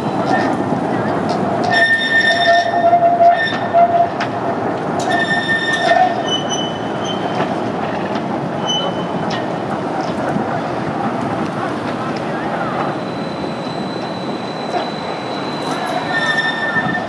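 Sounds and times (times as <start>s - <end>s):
tram wheels squealing on rail: 0.0s - 4.4s, 5.0s - 10.8s, 11.6s - 17.0s
tram running noise: 0.0s - 17.0s.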